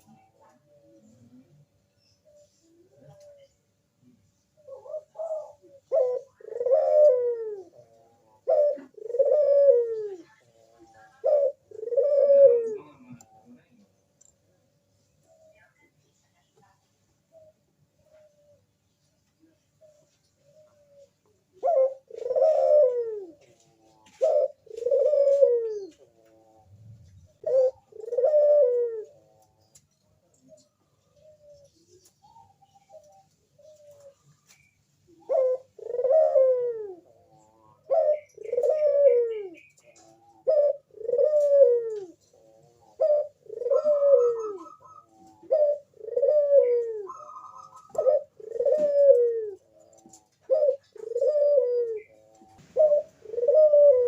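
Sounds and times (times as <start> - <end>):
dove cooing: 0.0 - 13.9, 17.3 - 18.8, 19.4 - 54.0.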